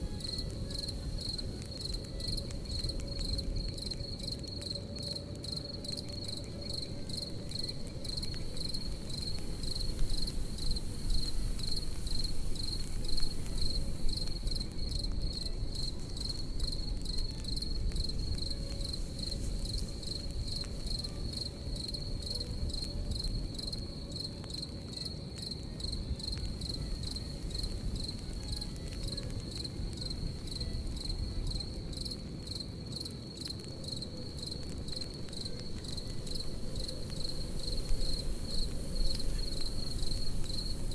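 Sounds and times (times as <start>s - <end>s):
crackling campfire: 0.0s - 40.9s
crickets chirping: 0.0s - 40.9s
fire pops and snaps: 0.0s - 40.9s.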